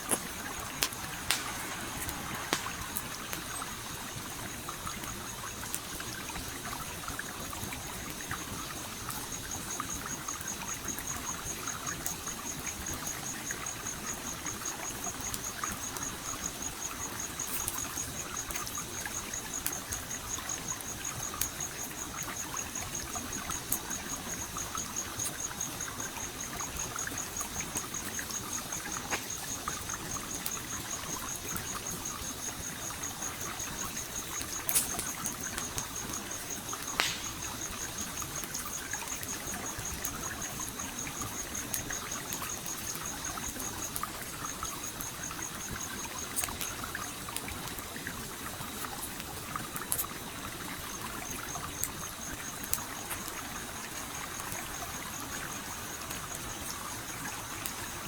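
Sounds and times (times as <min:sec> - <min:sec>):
stream flowing: 0:00.0 - 0:10.8, 0:21.0 - 0:58.0
campfire crackling: 0:00.0 - 0:58.0.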